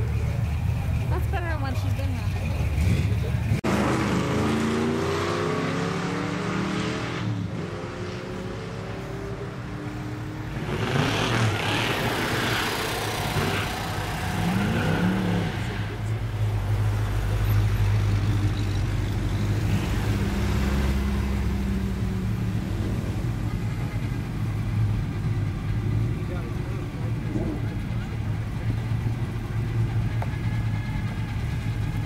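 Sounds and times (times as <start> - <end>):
car engines idling and revving: 0.0 - 32.0.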